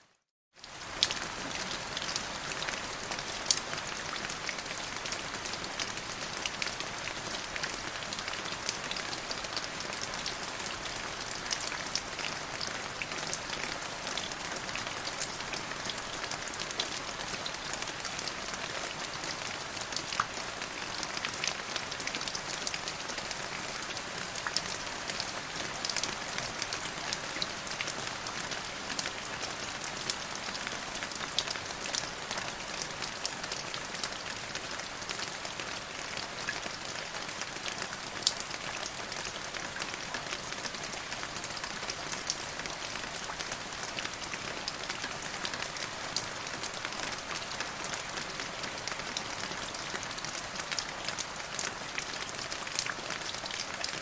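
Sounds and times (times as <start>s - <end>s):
steady rain falling: 0.2s - 54.0s.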